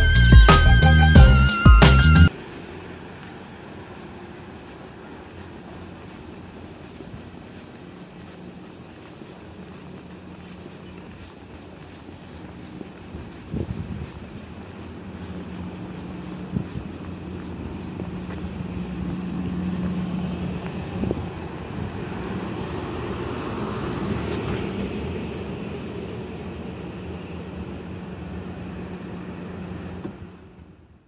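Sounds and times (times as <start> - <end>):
low hum of traffic engines: 2.0 - 31.0
vehicle passing: 2.2 - 30.6.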